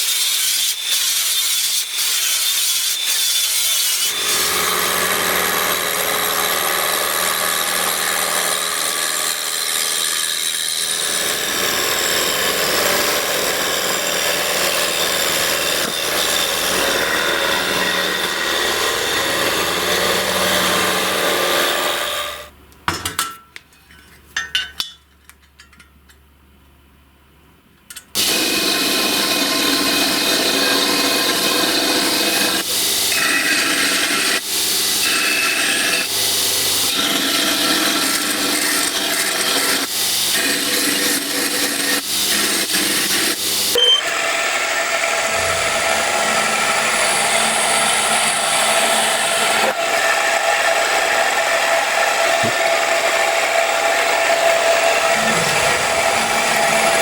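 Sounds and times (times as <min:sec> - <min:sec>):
power tool running under load: 0:00.0 - 0:22.5, 0:28.2 - 0:57.0.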